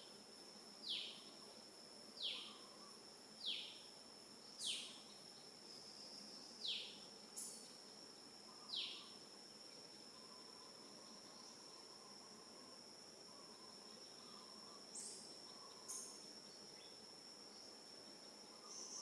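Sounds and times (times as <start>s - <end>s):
insect drone: 0.0s - 19.0s.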